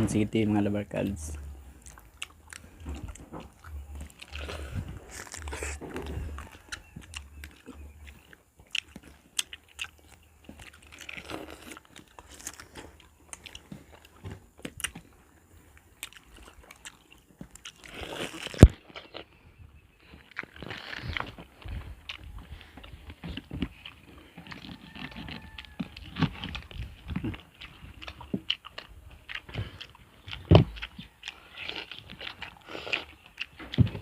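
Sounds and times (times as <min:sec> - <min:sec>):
chewing crunchy pineapple: 0:00.2 - 0:34.0.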